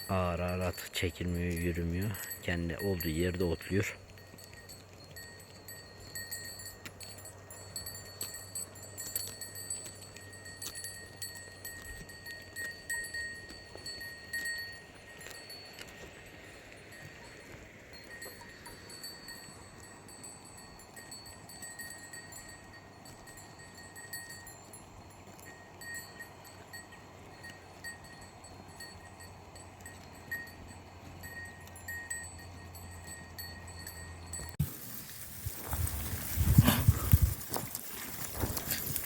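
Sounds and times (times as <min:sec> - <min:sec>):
sheep bells ringing: 0:00.0 - 0:39.0.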